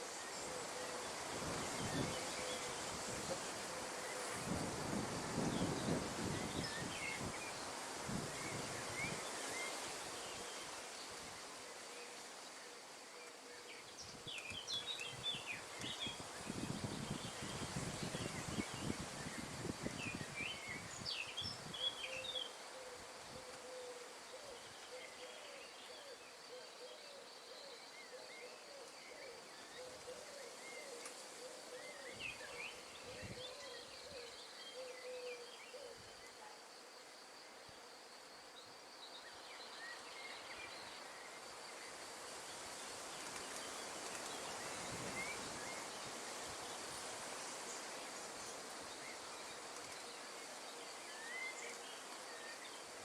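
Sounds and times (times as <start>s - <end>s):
wind through trees: 0.0s - 53.0s.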